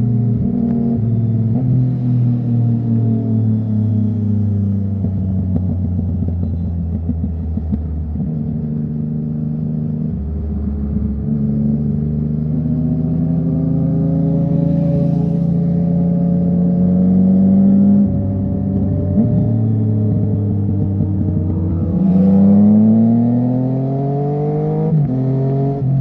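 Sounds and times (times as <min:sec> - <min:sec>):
motorcycle engines with loud exhausts: 0:00.0 - 0:26.0.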